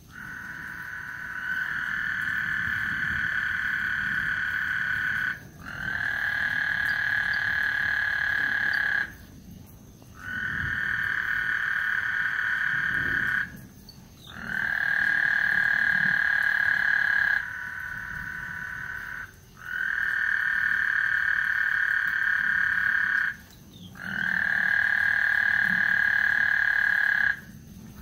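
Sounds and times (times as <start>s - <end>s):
frogs trilling: 0.0s - 28.0s.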